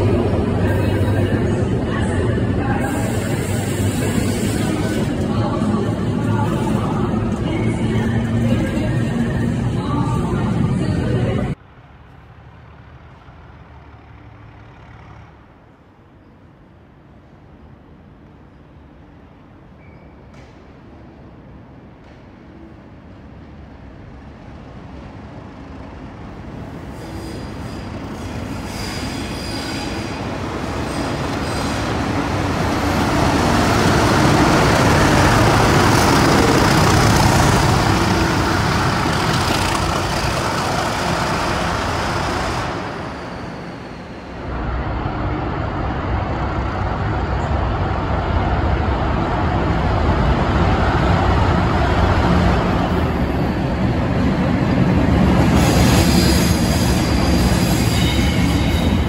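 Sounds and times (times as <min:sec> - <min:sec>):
diesel locomotives passing: 0:00.0 - 0:19.6, 0:21.3 - 0:59.0.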